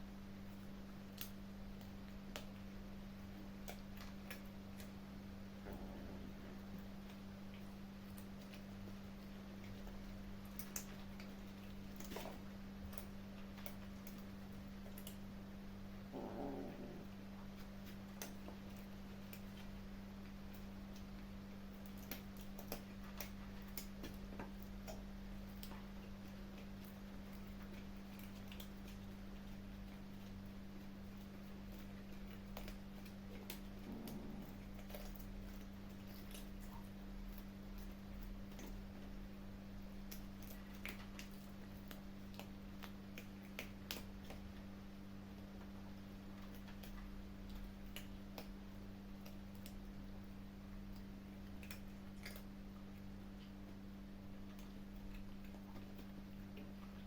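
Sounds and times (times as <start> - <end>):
kittens chewing: 0.0 - 57.0
steady low hum: 0.0 - 57.0.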